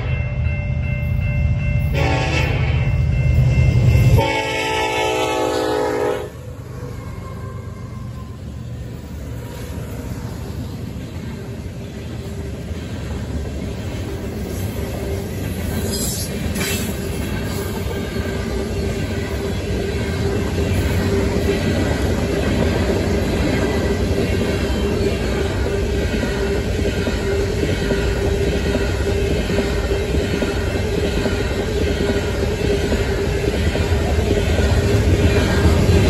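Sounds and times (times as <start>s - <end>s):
freight train rumbling and clattering: 0.0s - 36.0s.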